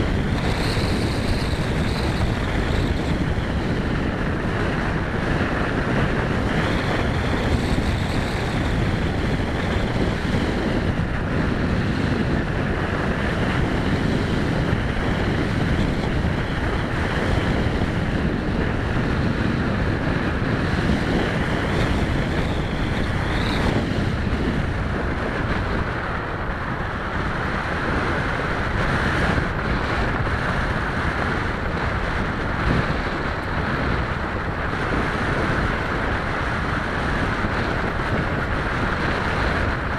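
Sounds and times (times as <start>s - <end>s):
electric motor and propeller whine: 0.0s - 39.9s
wind rushing over camera: 0.0s - 39.9s.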